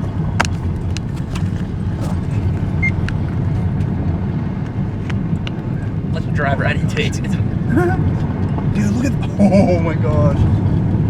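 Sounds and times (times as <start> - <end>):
car engine rumble: 0.0 - 11.0
road and wind noise: 0.0 - 11.0.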